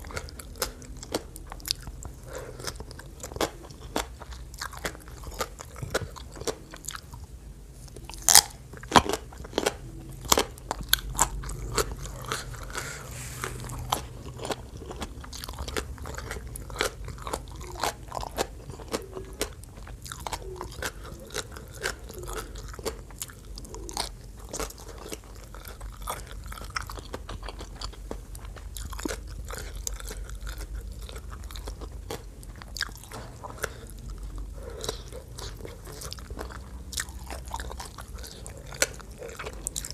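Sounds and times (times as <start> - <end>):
crunching and chewing raw vegetables: 0.0 - 39.9.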